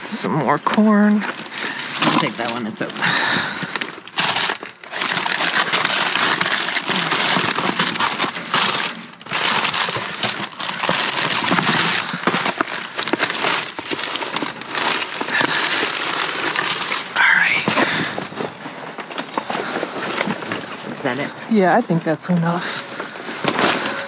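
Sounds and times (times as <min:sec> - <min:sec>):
plastic bags crinkling: 0:00.0 - 0:24.0.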